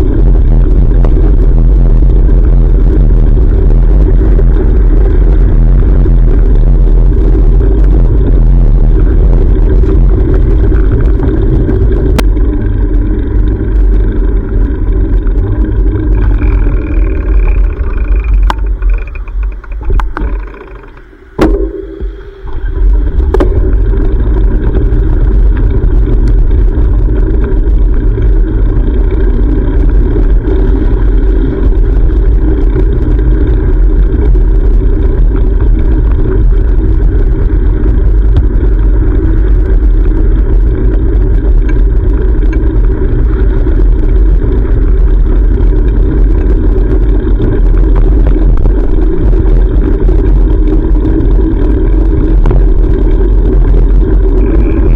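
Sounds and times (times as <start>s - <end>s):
fast ticking: 0.0s - 54.9s
wind rumble on camera: 0.0s - 54.9s.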